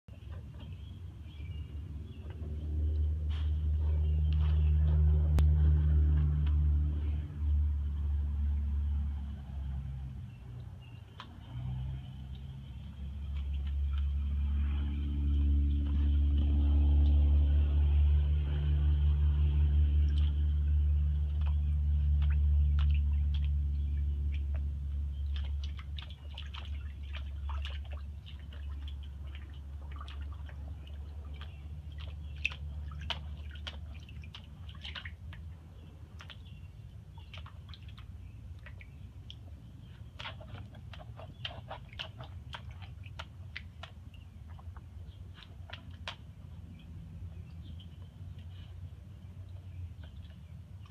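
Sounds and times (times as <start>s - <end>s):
loud low hum: 0.1s - 50.9s
puppy splashing in water: 0.1s - 50.9s.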